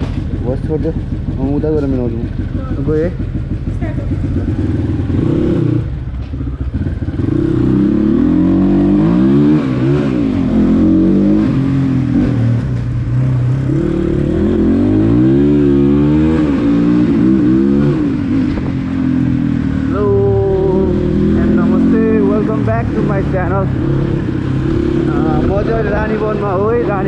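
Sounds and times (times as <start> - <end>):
dirt bike engine revving: 4.3 - 6.0, 6.7 - 27.0.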